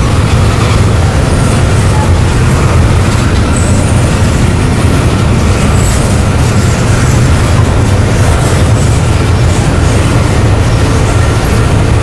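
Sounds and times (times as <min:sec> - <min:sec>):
train rumbling past: 0:00.0 - 0:12.0
wheels on rails: 0:00.0 - 0:12.0.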